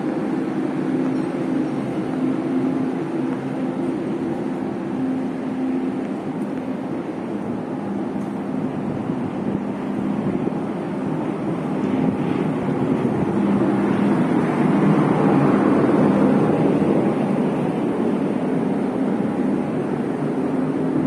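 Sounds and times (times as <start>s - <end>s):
train machinery droning: 0.0s - 21.0s.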